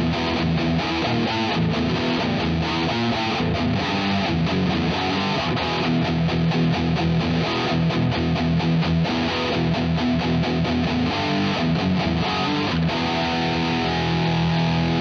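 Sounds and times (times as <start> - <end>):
distorted palm-muted electric guitar: 0.0 - 15.0.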